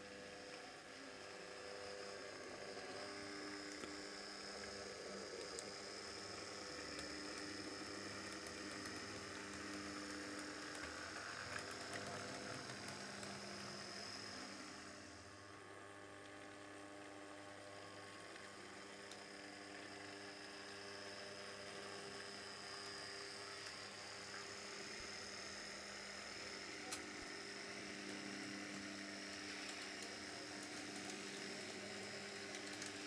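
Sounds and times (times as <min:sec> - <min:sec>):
model tram motors humming and whining: 0:00.0 - 0:33.0.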